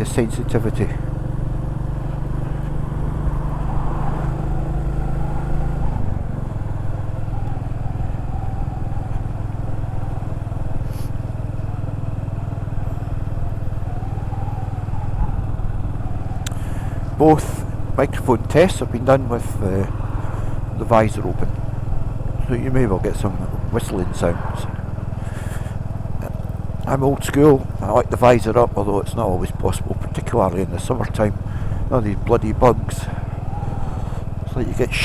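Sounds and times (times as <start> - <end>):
motorcycle engine running: 0.0 - 35.0
road and wind noise: 0.0 - 35.0.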